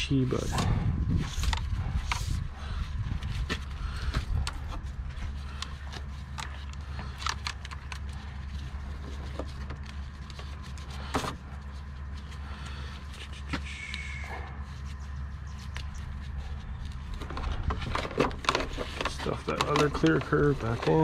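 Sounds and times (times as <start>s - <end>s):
steady low rumble: 0.0s - 21.0s
light clicks and rustles: 1.3s - 13.6s, 14.8s - 21.0s.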